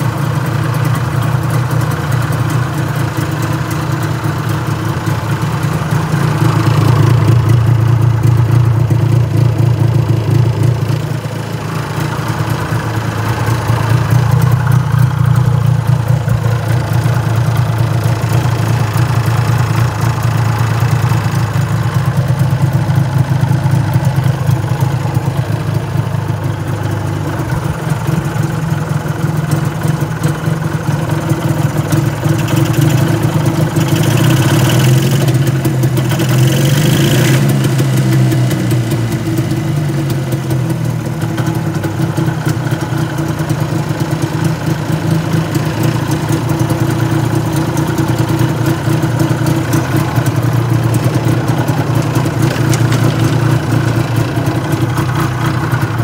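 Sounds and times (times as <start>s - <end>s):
snowmobile engine idling: 0.0s - 56.0s.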